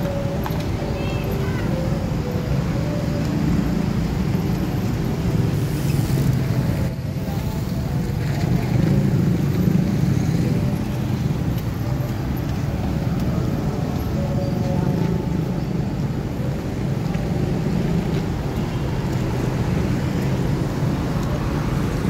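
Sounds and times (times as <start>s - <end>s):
cars and motorcycles passing: 0.0s - 22.0s.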